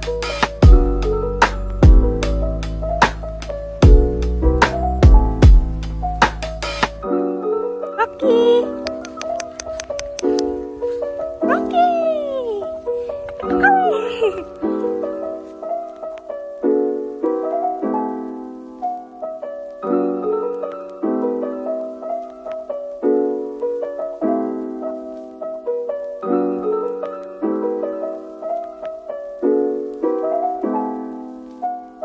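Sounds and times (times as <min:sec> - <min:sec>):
soft piano chords: 0:00.0 - 0:32.0.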